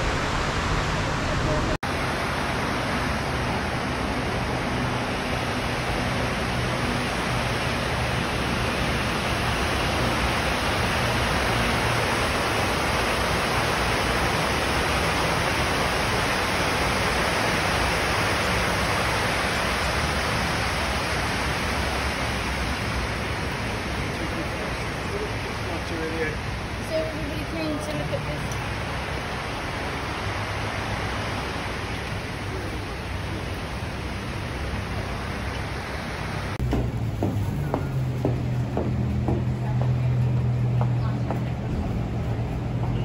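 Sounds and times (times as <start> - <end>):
waterfall rushing: 0.0 - 36.6.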